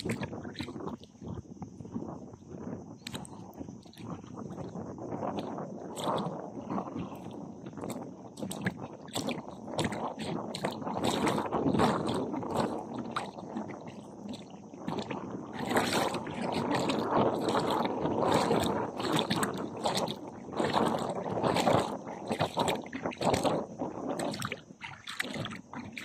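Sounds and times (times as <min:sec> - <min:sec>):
feet wading through water: 0:00.0 - 0:02.2, 0:02.9 - 0:26.0.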